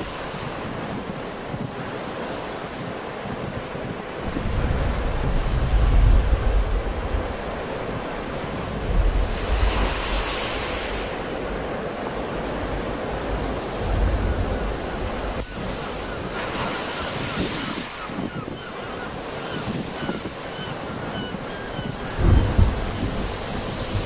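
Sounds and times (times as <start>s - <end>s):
sea waves breaking: 0.0s - 24.0s
wind buffeting microphone: 0.0s - 24.0s.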